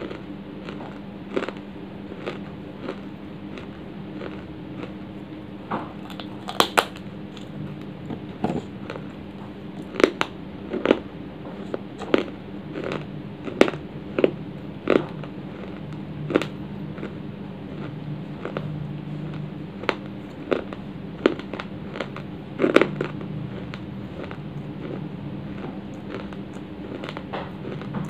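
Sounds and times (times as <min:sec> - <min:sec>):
clay being chewed: 0:00.0 - 0:05.0, 0:05.9 - 0:28.0.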